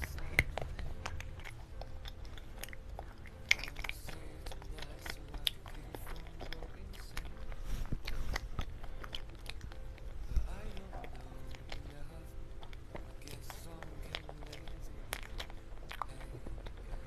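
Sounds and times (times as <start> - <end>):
mouth clicks and smacks: 0.0 - 17.0
person chewing: 0.0 - 17.0.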